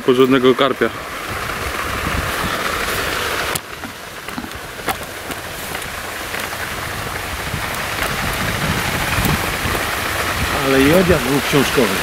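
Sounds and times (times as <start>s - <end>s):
wind over rippling water: 0.0s - 12.0s
wind rumbling on microphone: 0.9s - 12.0s.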